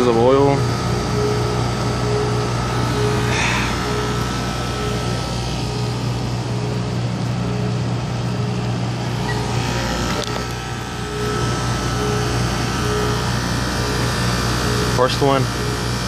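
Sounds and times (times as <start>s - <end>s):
air conditioning equipment humming: 0.0s - 16.0s.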